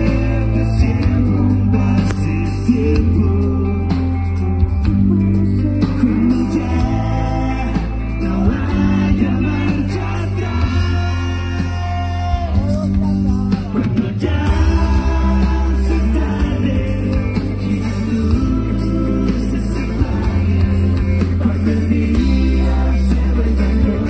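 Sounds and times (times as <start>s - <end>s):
live pop rock band: 0.0s - 24.0s
person singing: 0.0s - 24.0s
sustained bass notes: 0.0s - 24.0s.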